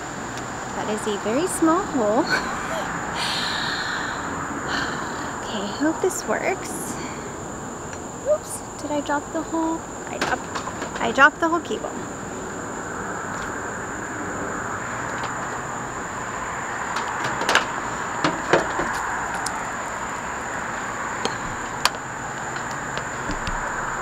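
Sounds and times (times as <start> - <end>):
constant high whine: 0.0 - 24.0
outdoor background noise: 0.0 - 24.0.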